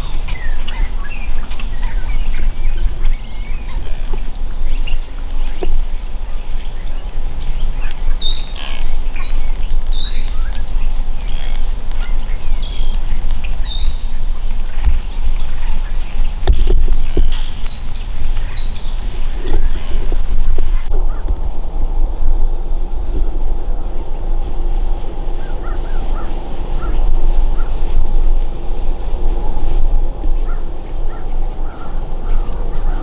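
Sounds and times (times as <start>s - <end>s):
songbirds chirping and trilling: 0.0s - 21.4s, 22.0s - 33.0s
steady low rumble: 0.0s - 33.0s.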